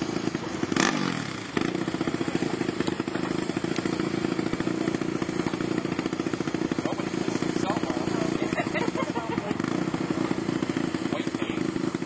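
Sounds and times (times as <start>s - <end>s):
quad driving by: 0.0s - 12.0s
quad engines running: 0.0s - 12.0s.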